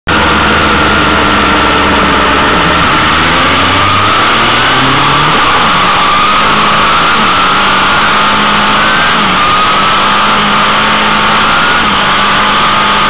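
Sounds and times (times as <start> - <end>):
vehicle engine running hard: 0.0 - 13.0
road and wind rush: 0.1 - 13.0.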